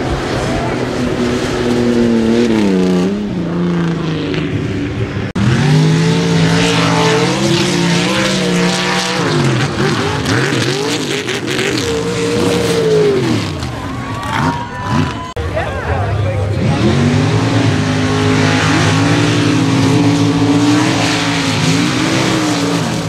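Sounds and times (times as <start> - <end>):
truck engines revving: 0.0 - 23.0.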